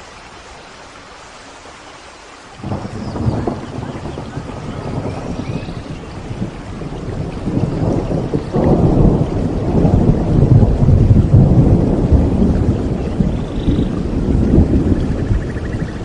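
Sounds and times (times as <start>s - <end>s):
steady rain: 0.0s - 16.0s
rolling thunder: 2.6s - 16.0s.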